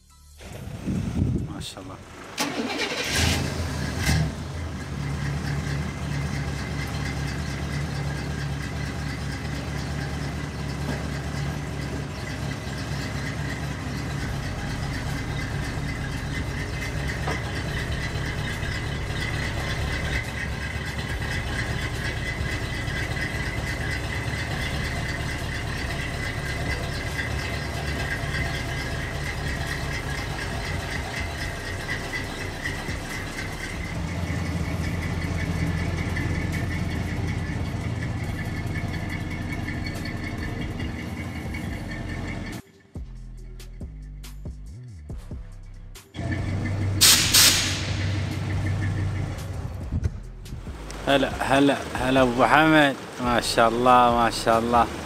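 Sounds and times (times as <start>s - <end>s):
vehicle engine idling: 0.2s - 55.0s.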